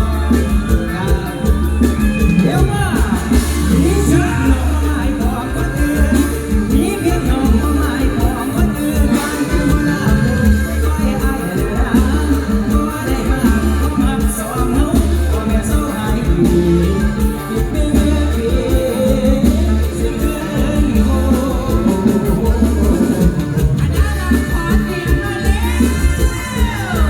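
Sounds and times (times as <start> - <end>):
heavy bass beat: 0.0 - 27.0
live band music with singing: 0.0 - 27.0.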